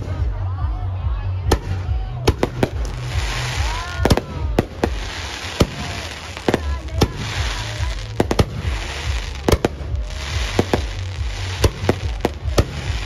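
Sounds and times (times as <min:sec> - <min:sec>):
fireworks crackling: 0:01.4 - 0:13.0
fireworks bangs: 0:01.5 - 0:13.0.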